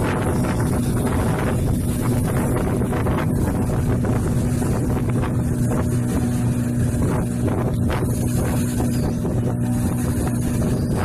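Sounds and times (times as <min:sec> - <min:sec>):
motor boat engine running: 0:00.0 - 0:11.0
wake splashing past hull: 0:00.0 - 0:11.0
wind buffeting microphone: 0:00.0 - 0:11.0.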